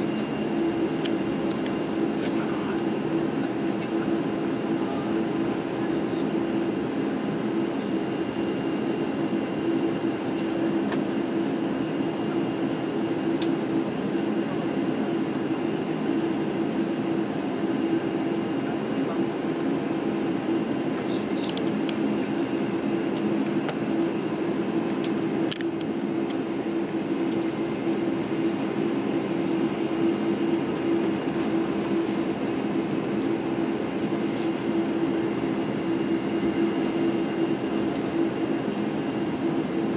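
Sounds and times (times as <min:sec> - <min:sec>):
cabin air-conditioning rush: 0:00.0 - 0:08.5, 0:12.8 - 0:39.9
jet engines humming: 0:00.0 - 0:39.9.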